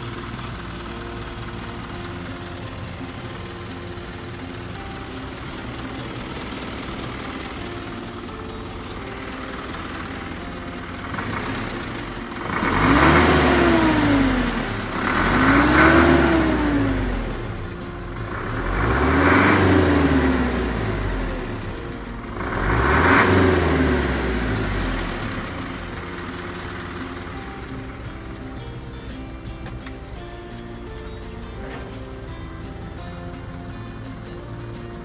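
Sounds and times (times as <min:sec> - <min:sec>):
truck engine idling and revving: 0:00.0 - 0:35.0.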